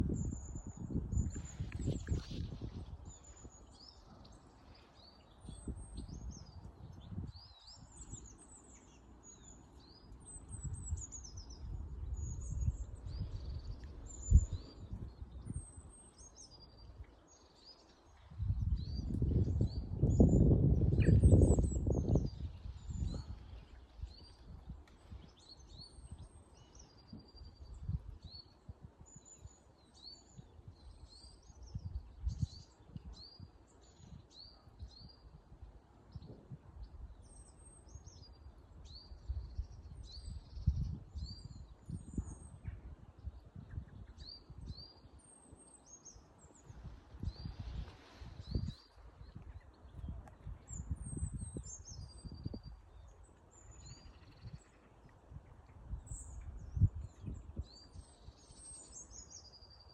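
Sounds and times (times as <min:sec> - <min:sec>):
small birds chirping and whistling: 0:00.1 - 0:35.3, 0:37.1 - 0:54.9, 0:55.9 - 0:59.9.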